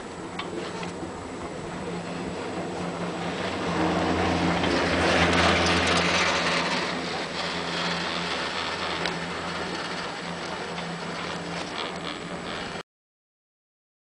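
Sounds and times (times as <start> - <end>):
low mechanical hum: 0.0 - 12.8
rushing noise: 0.0 - 12.8.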